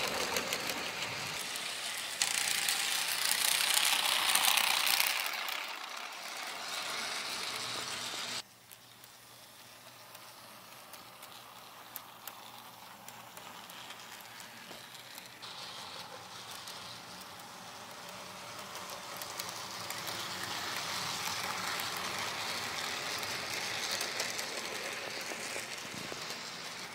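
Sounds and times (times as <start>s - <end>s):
model train rattling on track: 0.0s - 26.9s.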